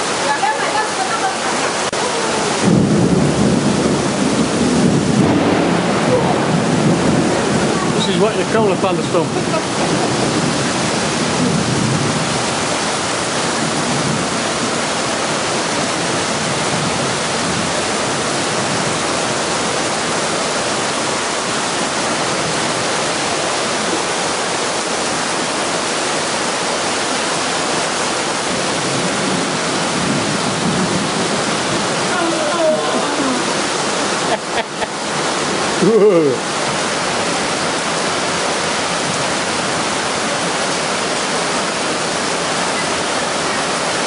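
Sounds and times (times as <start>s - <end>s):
heavy rain on concrete: 0.0s - 44.0s.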